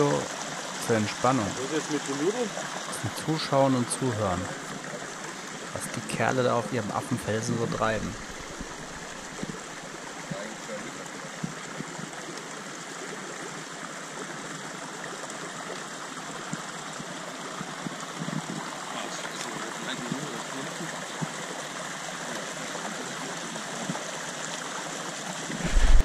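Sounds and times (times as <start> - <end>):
creek flowing over rocks: 0.0 - 26.0.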